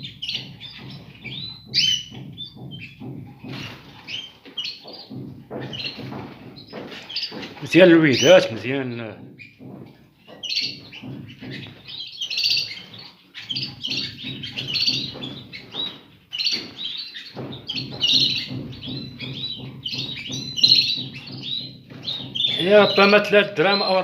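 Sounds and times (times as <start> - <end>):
birds chirping and twittering: 0.0 - 24.0.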